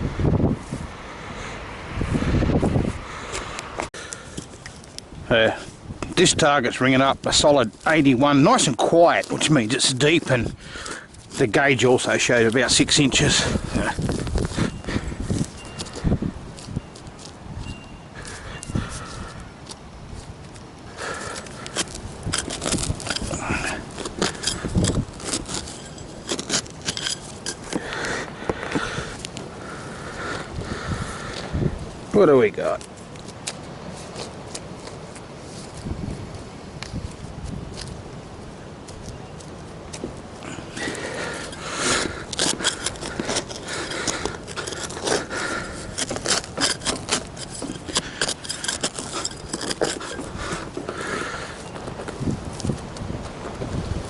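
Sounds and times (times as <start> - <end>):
hand digger scraping soil: 4.3 - 36.2, 38.8 - 54.0.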